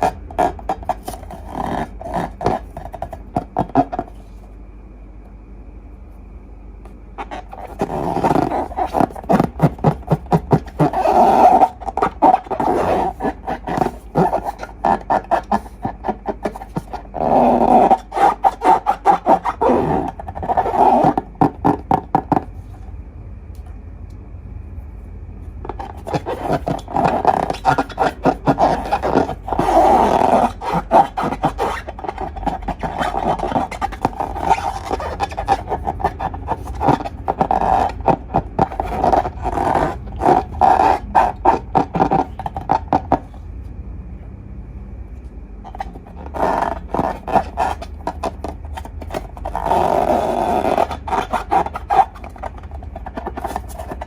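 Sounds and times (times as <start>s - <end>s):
slime squishing by hand: 0.0s - 4.4s, 6.9s - 22.8s, 25.7s - 43.4s, 45.7s - 54.0s.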